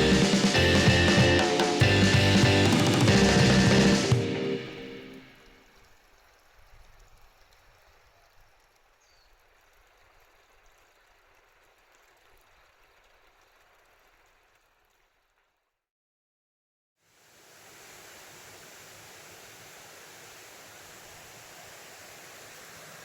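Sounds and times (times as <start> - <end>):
faint rushing water: 0.0 - 15.6, 17.0 - 23.0.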